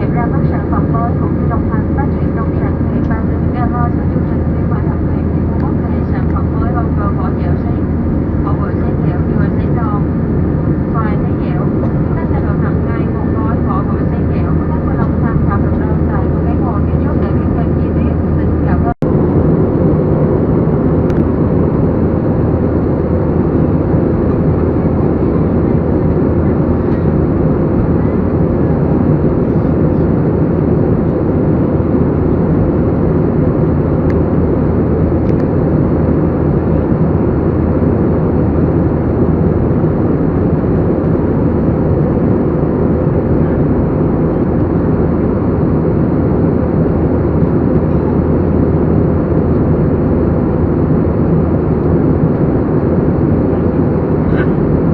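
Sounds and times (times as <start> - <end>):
airliner cabin engine rush: 0.0 - 54.9.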